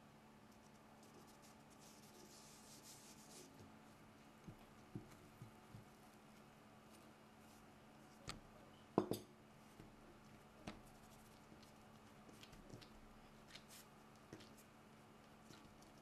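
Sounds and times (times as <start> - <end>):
hands kneading dough: 0.4 - 8.6, 9.5 - 16.0.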